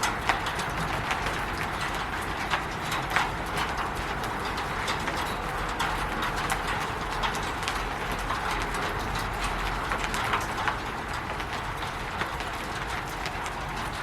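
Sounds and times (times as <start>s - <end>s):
rain hissing on a roof: 0.0s - 14.0s
raindrops tapping on roof: 0.0s - 14.0s.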